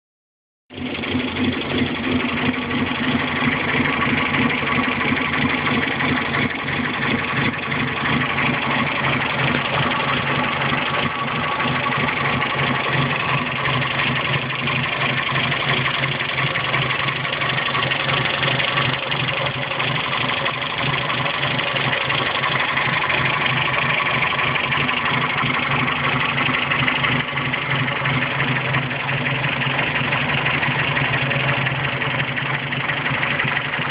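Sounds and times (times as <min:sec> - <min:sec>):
pickup engine idling: 0:00.8 - 0:33.9.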